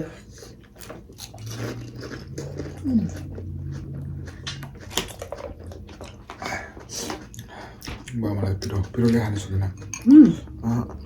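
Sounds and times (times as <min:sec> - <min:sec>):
crunching and chewing: 0:00.0 - 0:11.0.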